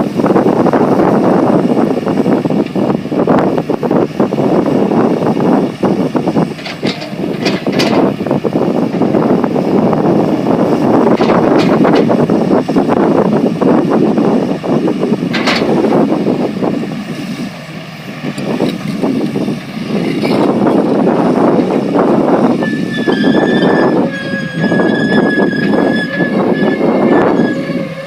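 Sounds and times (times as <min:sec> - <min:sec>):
excavator running: 0:00.0 - 0:28.0.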